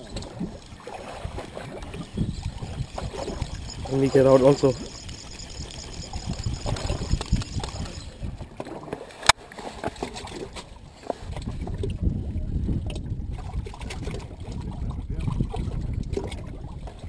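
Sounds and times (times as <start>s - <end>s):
wind rumbling on microphone: 0.0s - 8.9s, 9.8s - 17.0s.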